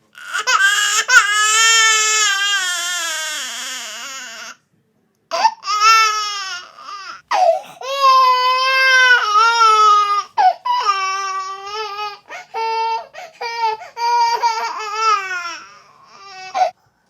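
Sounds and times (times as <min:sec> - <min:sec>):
infant crying: 0:00.2 - 0:04.6, 0:05.3 - 0:16.8.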